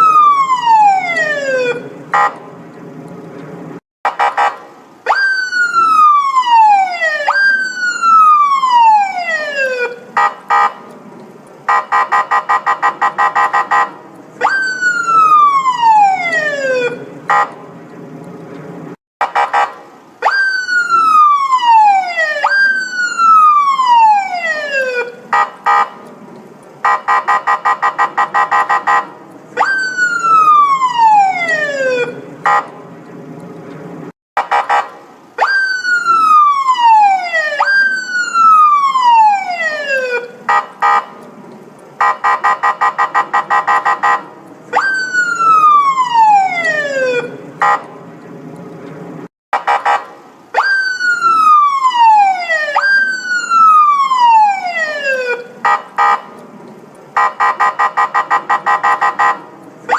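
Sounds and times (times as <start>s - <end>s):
police siren wailing: 0.0s - 2.4s, 4.1s - 10.9s, 11.7s - 17.6s, 19.2s - 26.1s, 26.8s - 32.8s, 34.4s - 41.2s, 41.9s - 48.0s, 49.6s - 56.4s, 57.1s - 59.9s.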